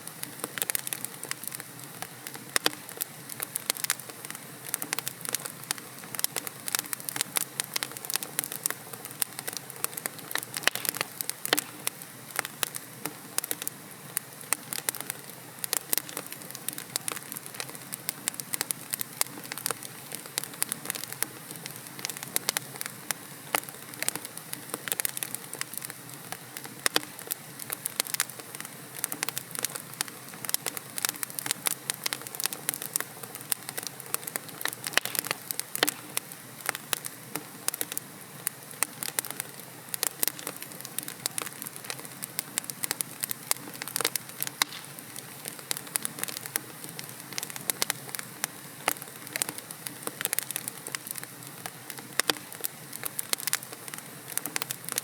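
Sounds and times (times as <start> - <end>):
logs crackling and popping: 0.0 - 55.0
soft hiss of flames: 0.0 - 55.0.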